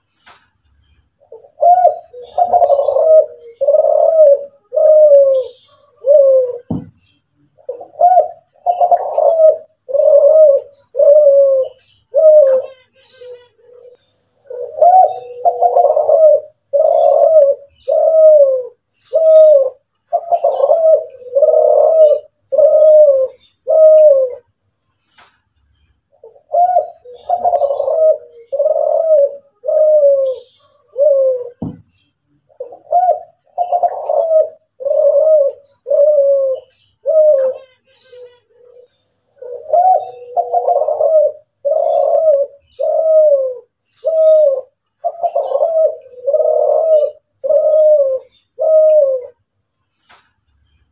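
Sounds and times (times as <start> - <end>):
dove cooing: 1.2 - 24.5, 26.2 - 49.5.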